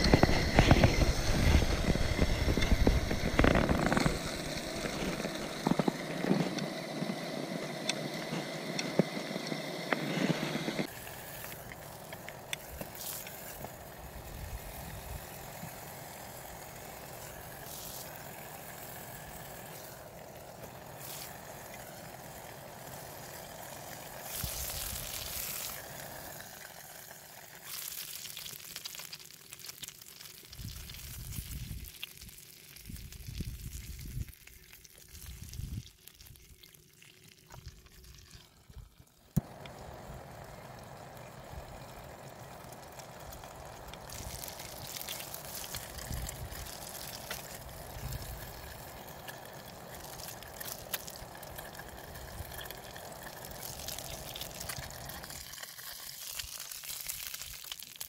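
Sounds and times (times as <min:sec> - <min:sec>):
meat sizzling in a pan: 0:00.0 - 0:07.4, 0:10.8 - 0:38.3, 0:39.4 - 0:58.0.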